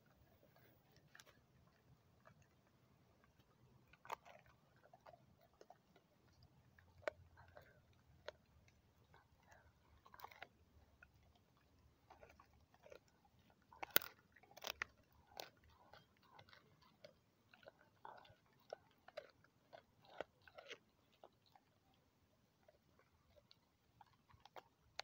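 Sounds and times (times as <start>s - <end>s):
dog chewing crunching bone: 0.0s - 25.0s.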